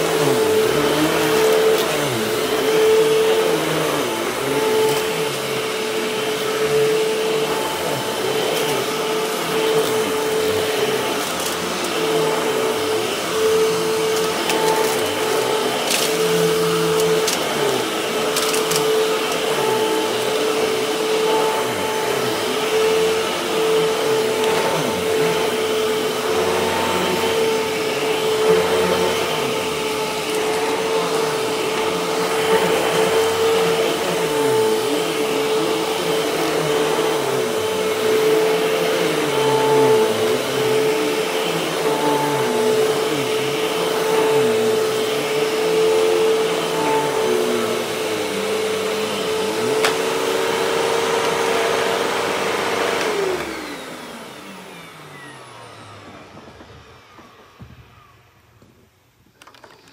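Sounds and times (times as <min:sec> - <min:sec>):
vacuum cleaner running: 0:00.0 - 0:59.9
vacuum motor winding down: 0:00.0 - 0:59.9.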